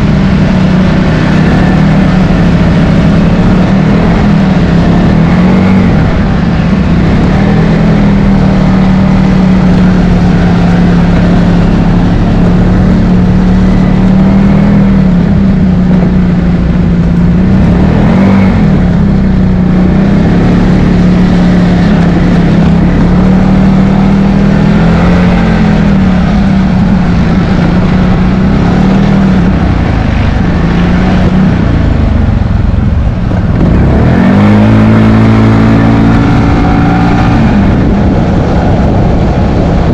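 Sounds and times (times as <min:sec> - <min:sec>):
atv engine running: 0:00.0 - 0:39.9
hiss of tyres and wind: 0:00.0 - 0:39.9.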